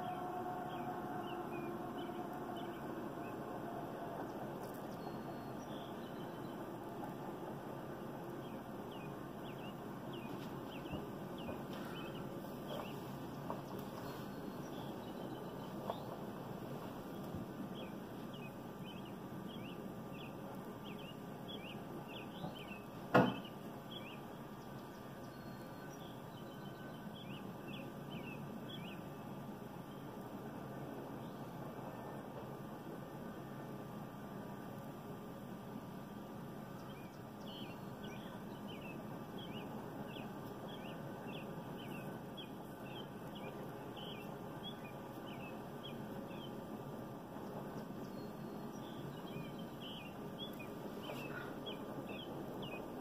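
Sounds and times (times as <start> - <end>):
songbird chirping: 0.0 - 32.5, 36.6 - 53.0
low background noise: 0.0 - 53.0
steady background noise: 0.0 - 53.0.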